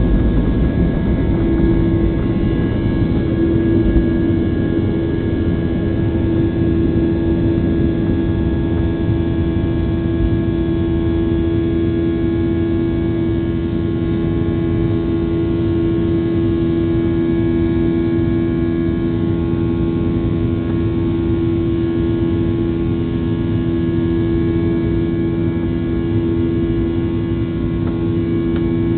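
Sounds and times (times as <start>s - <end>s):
airplane cabin engine rumble: 0.0s - 28.9s.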